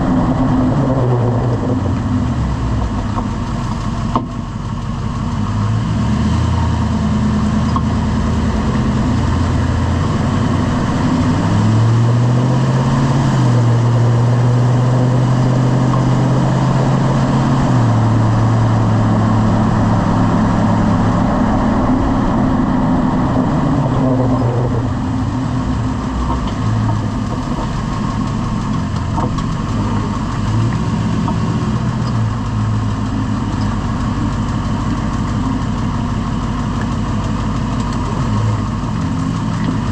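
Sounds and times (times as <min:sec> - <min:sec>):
pickup truck engine running: 0:00.0 - 0:39.9.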